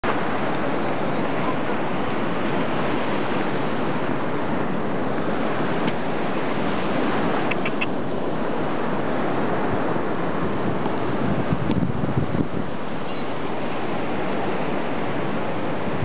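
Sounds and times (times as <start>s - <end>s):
surf rushing: 0.0s - 16.0s
wind on microphone: 0.0s - 16.0s.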